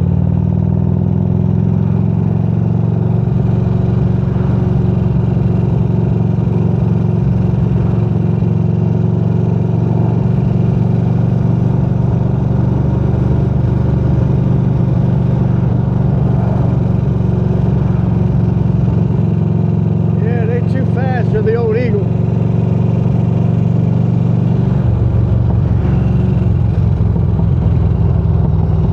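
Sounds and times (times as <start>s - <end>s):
motorcycle engine cruising: 0.0s - 28.9s.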